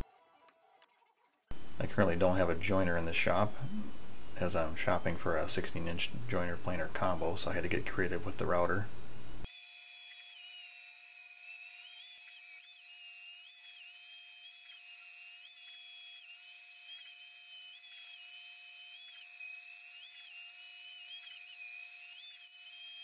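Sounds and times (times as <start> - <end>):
router spindle whining: 1.5 - 23.0.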